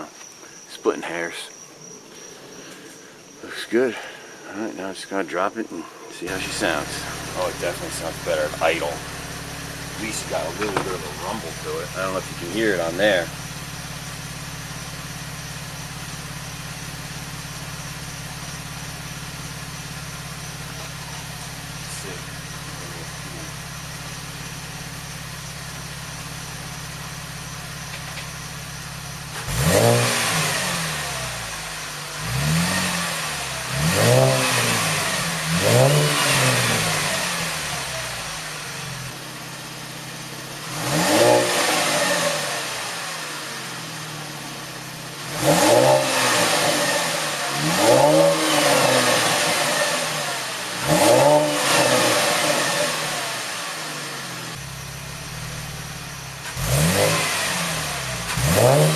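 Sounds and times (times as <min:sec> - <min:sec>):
car engine idling: 0:00.0 - 0:58.9
car engine revving: 0:06.2 - 0:58.9.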